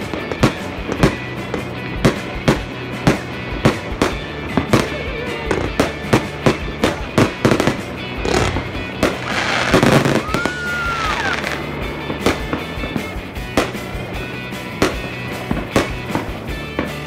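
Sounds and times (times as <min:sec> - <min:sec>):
firework bangs: 0:00.0 - 0:17.0
firework crackling: 0:00.0 - 0:17.0
music: 0:00.0 - 0:17.0
whistling firework: 0:00.0 - 0:17.0.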